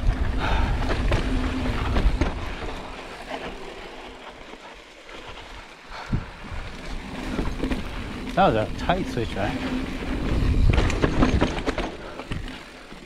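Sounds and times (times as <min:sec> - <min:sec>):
bike tyres rumbling on rocks: 0:00.0 - 0:13.0.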